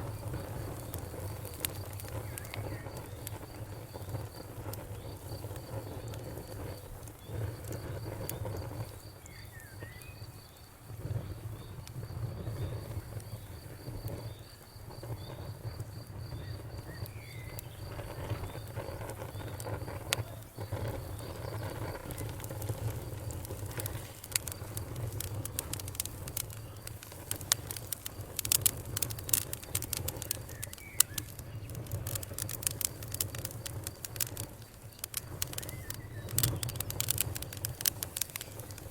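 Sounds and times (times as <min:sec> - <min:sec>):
fireplace fire crackling: 0:00.0 - 0:38.9.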